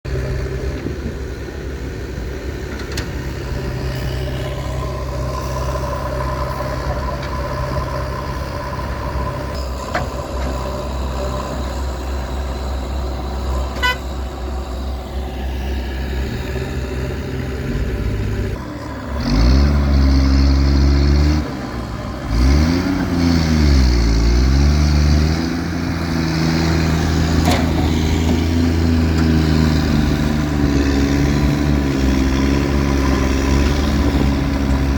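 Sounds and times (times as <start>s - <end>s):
diesel engine running and revving: 0.0s - 34.9s.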